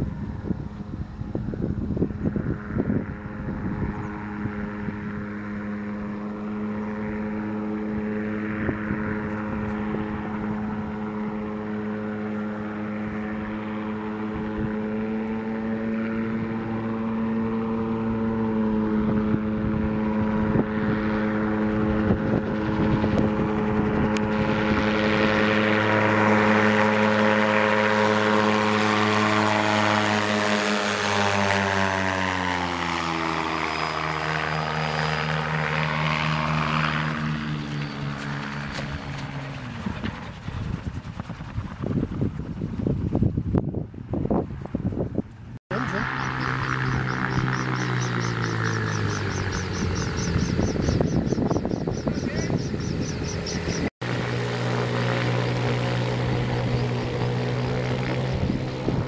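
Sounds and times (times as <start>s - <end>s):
wind buffeting microphone: 0.0s - 6.2s, 6.9s - 12.2s, 16.2s - 32.6s, 33.3s - 53.9s, 55.0s - 59.0s
aircraft engine drone: 0.0s - 59.0s.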